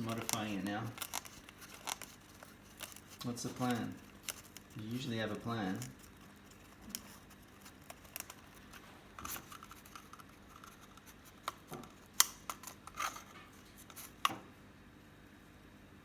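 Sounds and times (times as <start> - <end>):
bird chewing cardboard: 0.0 - 14.4.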